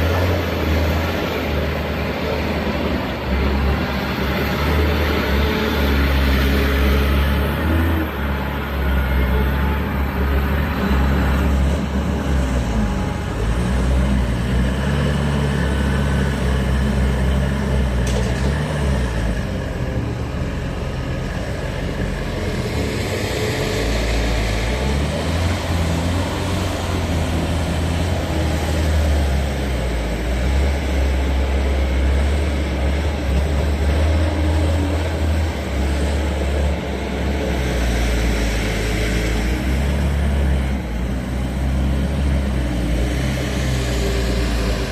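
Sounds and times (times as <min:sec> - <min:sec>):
loader engine running: 0:00.0 - 0:44.9.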